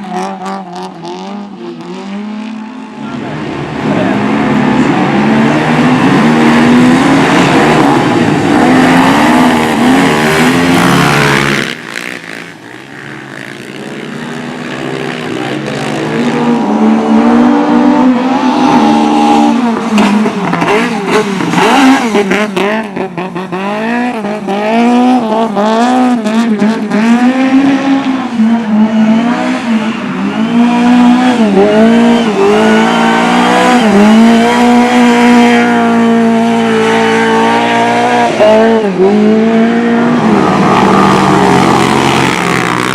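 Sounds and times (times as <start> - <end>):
racing motorcycle engines revving: 0.0 - 42.9.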